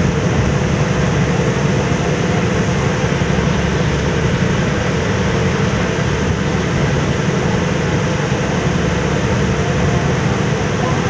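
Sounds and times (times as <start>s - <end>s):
churning wake rushing: 0.0s - 11.0s
ferry engines droning: 0.0s - 11.0s
wind on microphone: 0.0s - 11.0s.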